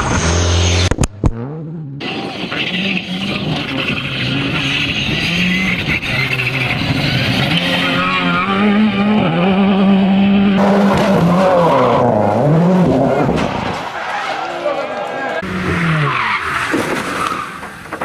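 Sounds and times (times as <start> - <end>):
rally car engines revving: 0.0 - 18.0.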